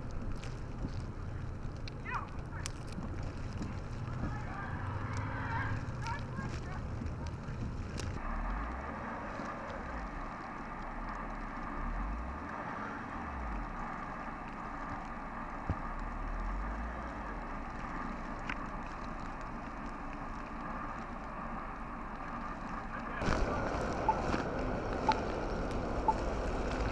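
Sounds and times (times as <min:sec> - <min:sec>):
blizzard wind gusting on microphone: 0:00.0 - 0:26.9
blowing snow rushing: 0:00.0 - 0:26.9
car stranded in snow: 0:00.0 - 0:26.9.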